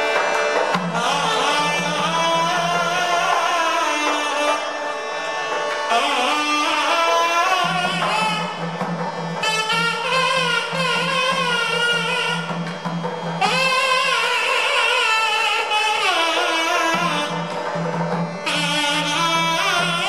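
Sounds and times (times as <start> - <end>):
double-reed pipe melody: 0.0 - 20.0
shruti box drone: 0.0 - 20.0.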